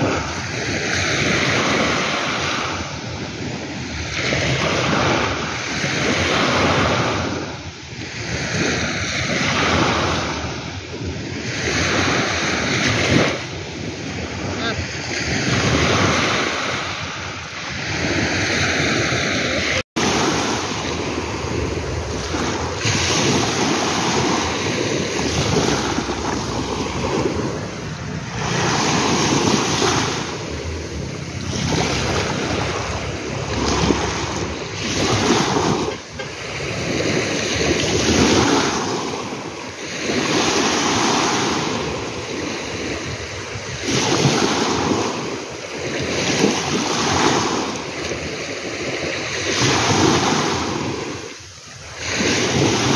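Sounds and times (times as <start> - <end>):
ocean waves breaking: 0.0 - 52.9
wind buffeting microphone: 0.0 - 52.9.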